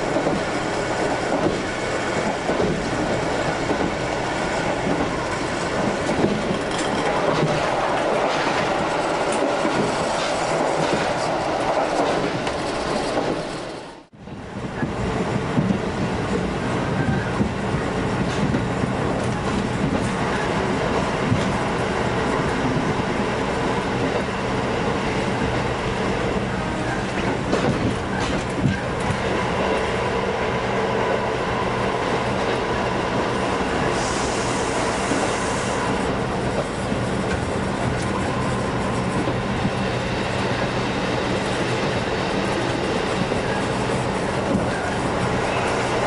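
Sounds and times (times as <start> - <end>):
rail joint clicks: 0.0 - 13.9, 14.6 - 30.0, 32.0 - 46.0
train interior rumble: 0.0 - 46.0.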